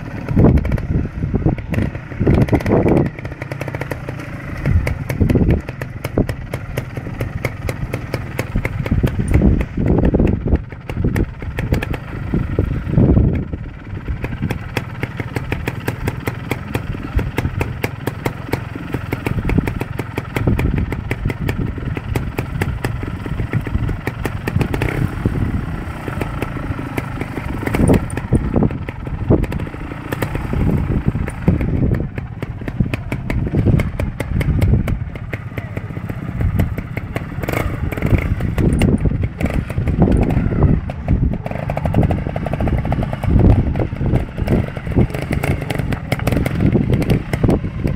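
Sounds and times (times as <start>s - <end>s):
motorcycle engine throttle bursts: 0.0s - 47.9s.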